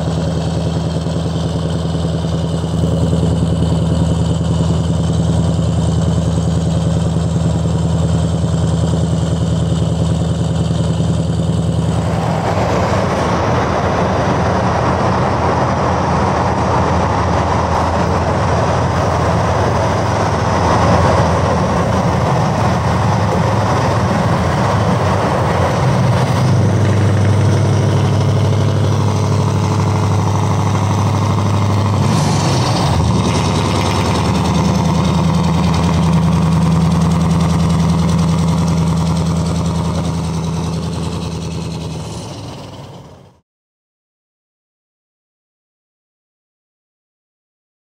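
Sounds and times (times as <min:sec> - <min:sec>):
diesel truck engine running: 0:00.0 - 0:43.4
tyre and road noise: 0:00.0 - 0:43.4.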